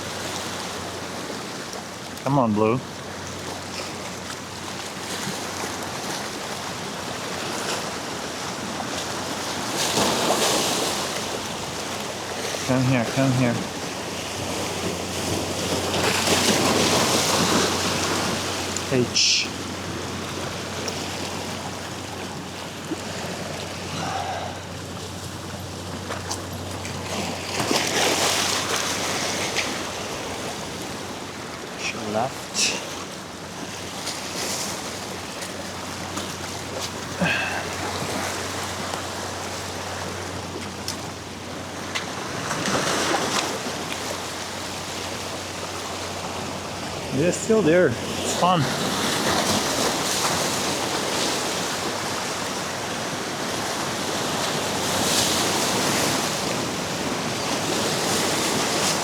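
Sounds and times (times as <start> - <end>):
surf washing against rocks: 0.0 - 59.0.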